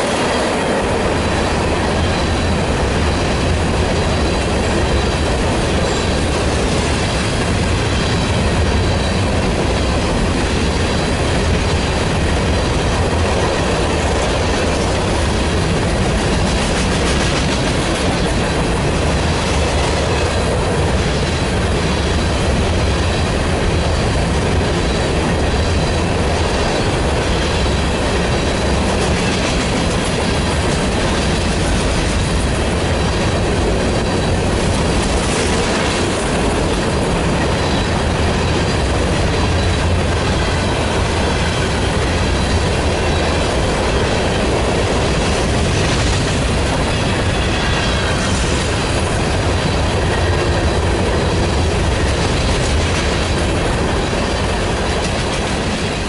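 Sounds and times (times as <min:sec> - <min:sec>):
train wheels rumbling and clacking: 0:00.0 - 0:56.0.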